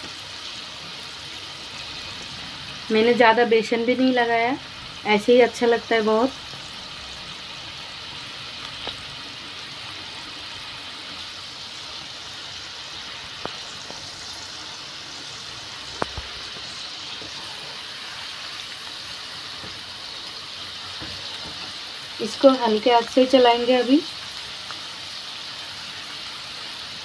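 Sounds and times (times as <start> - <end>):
deep-frying sizzle: 0.0 - 27.0.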